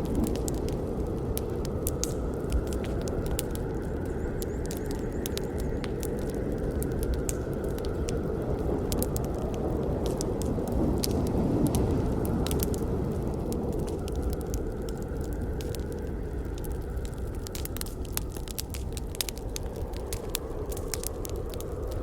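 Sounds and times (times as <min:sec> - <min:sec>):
low rush of flames: 0:00.0 - 0:22.0
wood popping and crackling: 0:00.0 - 0:22.0.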